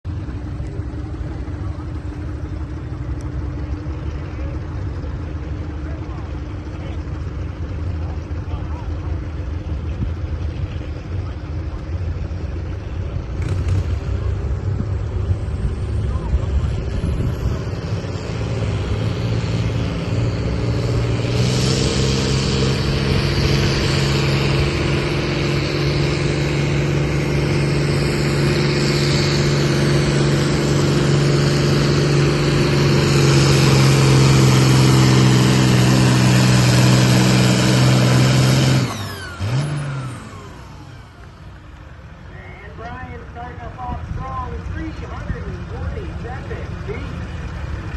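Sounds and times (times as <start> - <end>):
tractor engine high-revving drone: 0.0 - 47.9.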